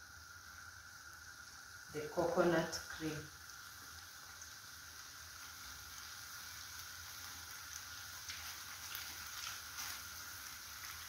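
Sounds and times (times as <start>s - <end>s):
fish sizzling in pan: 0.0s - 11.0s.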